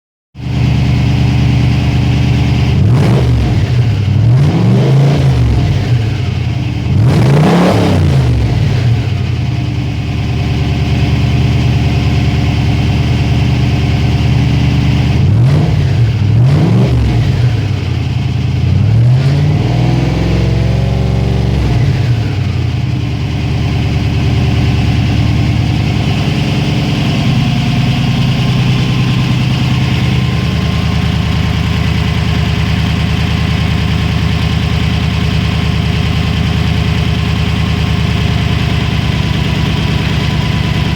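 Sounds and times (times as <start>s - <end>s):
car engine idling and revving: 0.4s - 40.9s.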